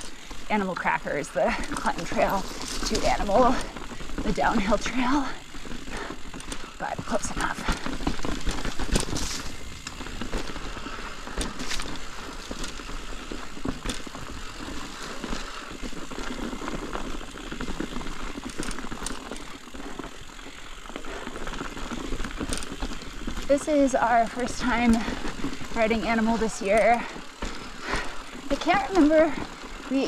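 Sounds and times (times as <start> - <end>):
bike tyres on rocky trail: 0.0 - 30.0
loose rock clicks and knocks: 1.4 - 30.0.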